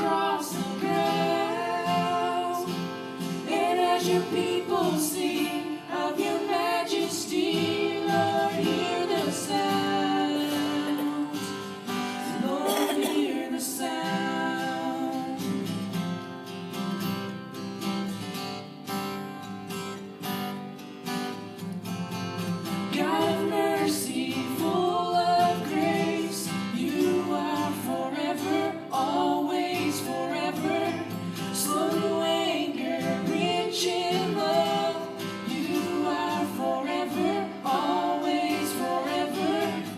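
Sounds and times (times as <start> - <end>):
children singing: 0.0 - 15.7, 23.0 - 39.9.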